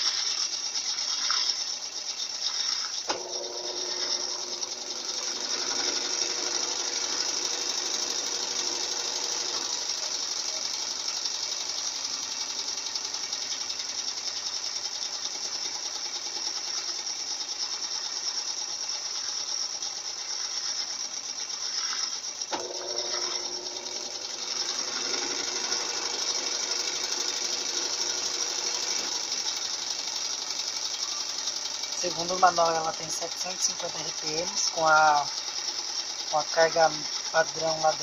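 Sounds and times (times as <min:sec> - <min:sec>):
washing machine spinning: 0:00.0 - 0:38.0.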